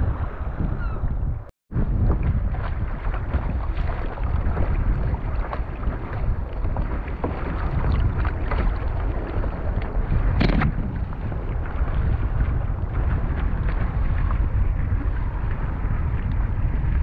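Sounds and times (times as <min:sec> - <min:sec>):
wind buffeting microphone: 0:00.0 - 0:17.0
water splashing against kayak hull: 0:01.7 - 0:17.0.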